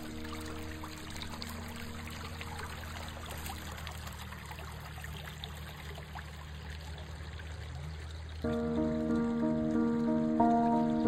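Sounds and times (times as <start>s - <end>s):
creek trickling over stones: 0.0s - 11.0s
small water splashes and drips: 0.0s - 11.0s.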